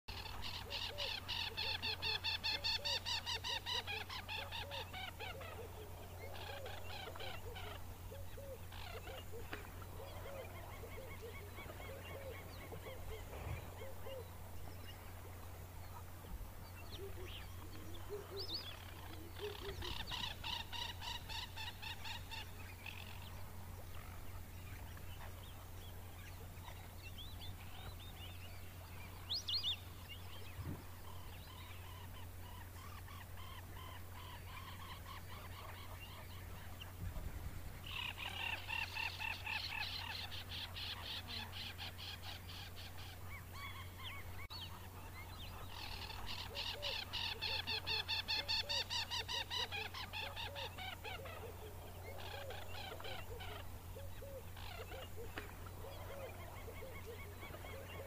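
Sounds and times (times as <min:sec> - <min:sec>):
wetland birds calling: 0:00.1 - 0:58.0.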